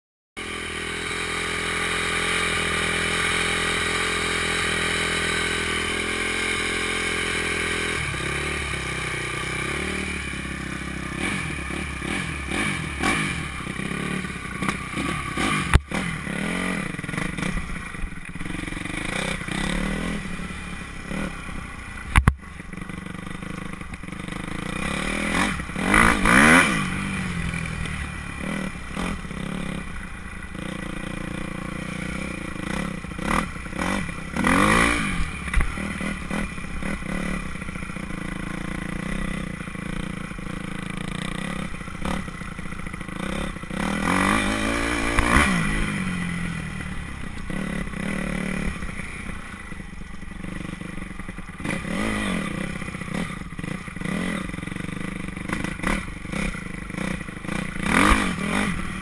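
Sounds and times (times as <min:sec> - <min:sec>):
dirt bike engine revving: 0:00.4 - 0:59.0.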